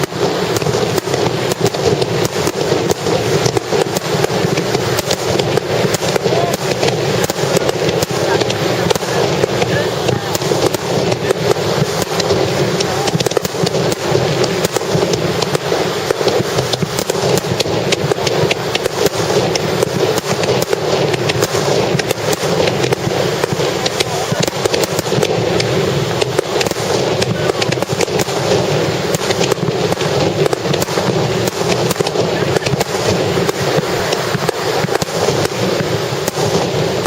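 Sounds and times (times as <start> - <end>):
fireworks bursts and crackle: 0.0 - 37.0.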